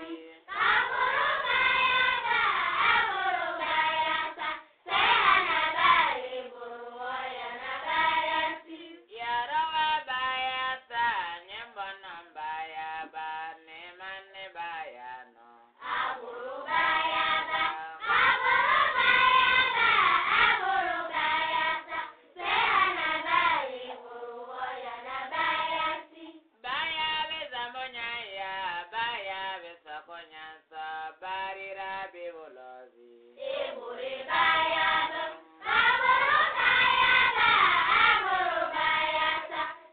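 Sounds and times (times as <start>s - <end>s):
high-pitched devotional chant singing: 0.0s - 39.9s.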